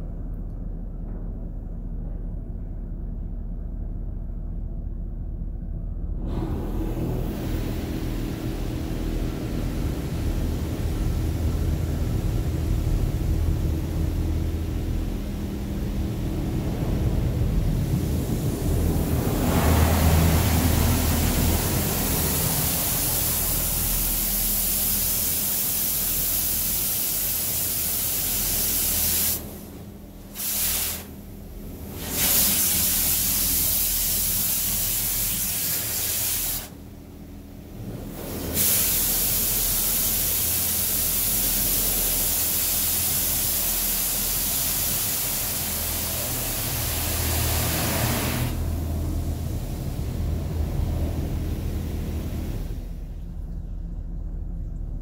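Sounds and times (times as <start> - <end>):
low steady hum: 0.0 - 55.0
water spray hissing on van: 6.7 - 36.8, 38.1 - 52.6.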